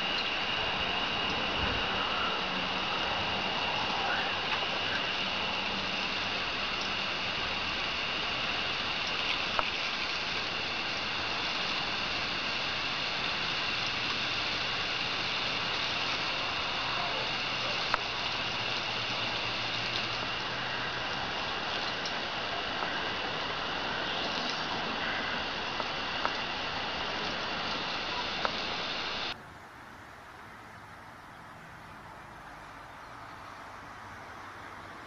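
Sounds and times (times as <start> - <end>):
garden hose water spraying: 0.0 - 35.0.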